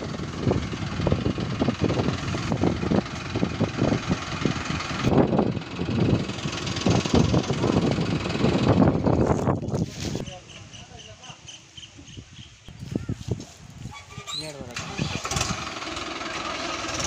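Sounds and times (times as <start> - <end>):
diesel tractor engine idling: 0.0 - 11.2, 13.7 - 17.0.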